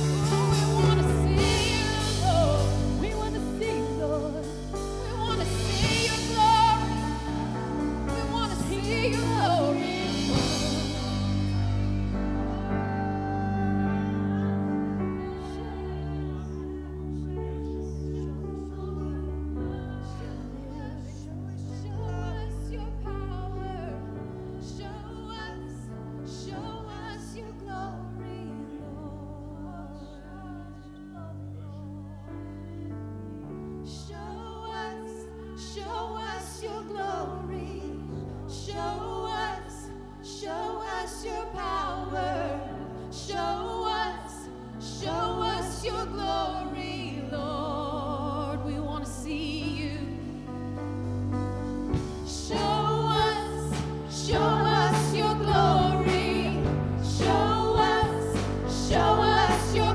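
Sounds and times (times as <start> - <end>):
held low chords: 0.0 - 33.9, 37.5 - 59.9.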